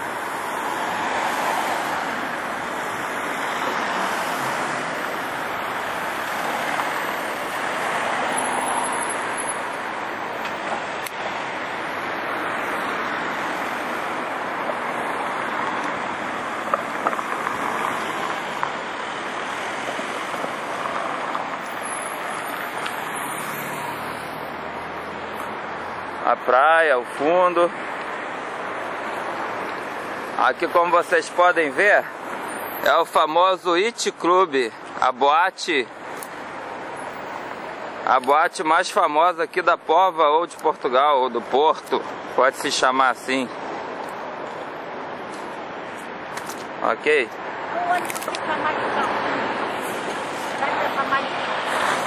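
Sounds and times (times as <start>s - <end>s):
cars passing: 0.0s - 52.0s.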